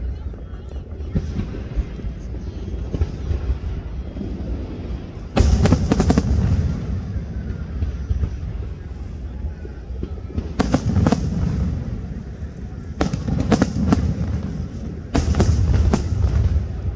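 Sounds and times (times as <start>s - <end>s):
fireworks crackling bangs: 0.9s - 16.9s
fireworks booming: 1.0s - 16.9s.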